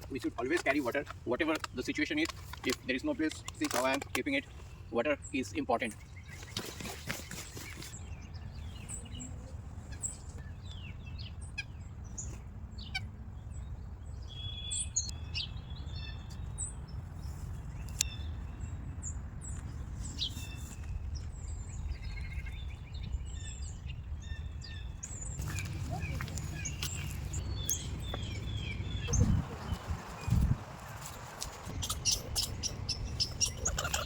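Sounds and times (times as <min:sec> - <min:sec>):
songbirds chirping and singing: 0:00.0 - 0:34.0.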